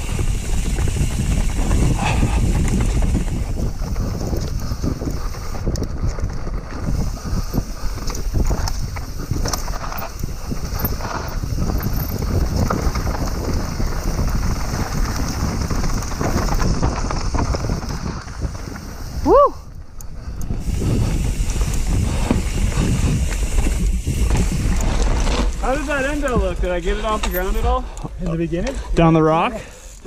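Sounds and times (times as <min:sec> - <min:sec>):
tyres rumbling on dirt: 0:00.0 - 0:19.2, 0:20.5 - 0:30.0
bike clicks and rattles: 0:00.0 - 0:30.0
wind buffeting microphone: 0:00.0 - 0:30.0.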